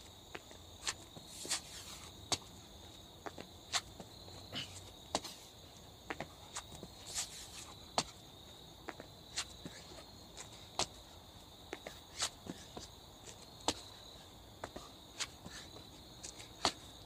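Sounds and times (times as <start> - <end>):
crickets trilling: 0.0 - 17.0
hands and feet thumping ground: 0.4 - 2.5, 3.2 - 5.5, 6.1 - 11.0, 11.8 - 14.0, 14.6 - 17.0.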